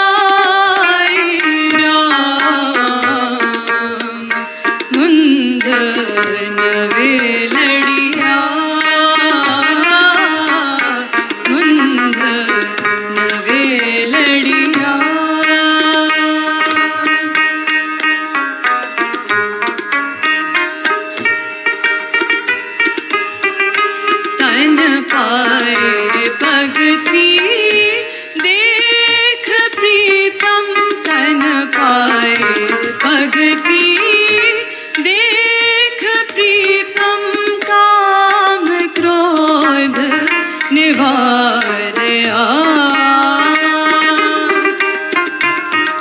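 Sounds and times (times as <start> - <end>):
woman singing: 0.0 - 17.9, 24.3 - 45.3
string instrument: 0.0 - 46.0
tabla: 0.0 - 46.0
tanpura drone: 0.0 - 46.0.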